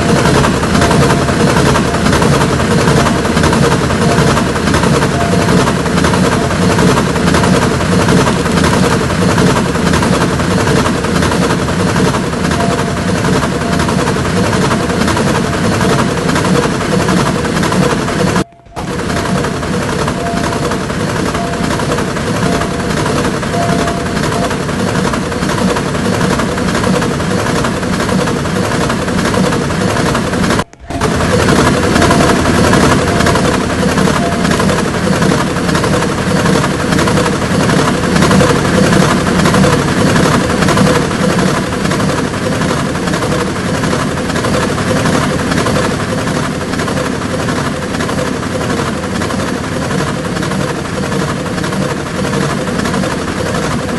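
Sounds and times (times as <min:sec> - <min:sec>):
train wheels clattering over rails: 0:00.0 - 0:53.9.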